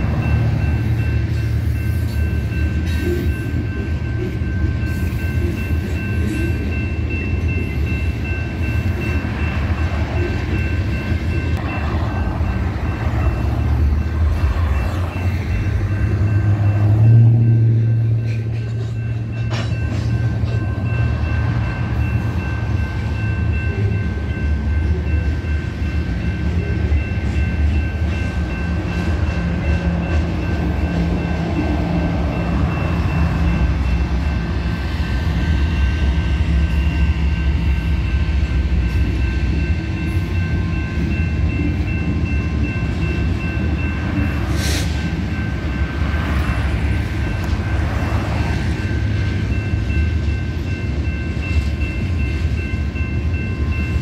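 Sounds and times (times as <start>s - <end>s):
crossing bell ringing: 0.0s - 54.0s
diesel locomotive engines humming: 0.0s - 54.0s
train wheels rumbling on rail: 0.0s - 54.0s.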